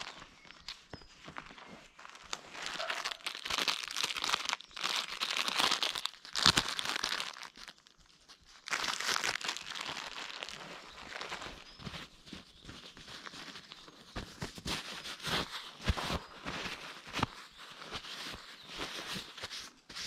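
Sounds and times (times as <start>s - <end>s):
plastic snack packet crinkling: 0.0s - 20.0s.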